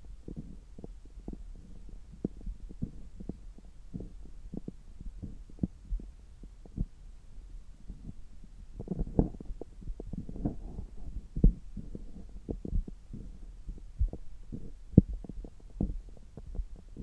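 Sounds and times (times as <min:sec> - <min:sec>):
stomach gurgles: 0:00.2 - 0:07.0, 0:07.8 - 0:17.0.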